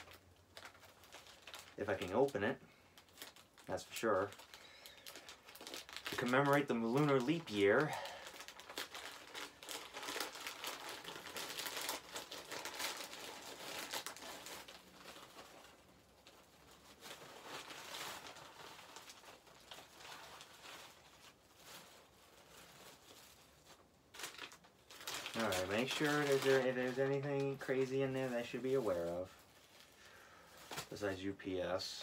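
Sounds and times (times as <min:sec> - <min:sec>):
packaging crinkling and rustling: 0:00.0 - 0:31.9.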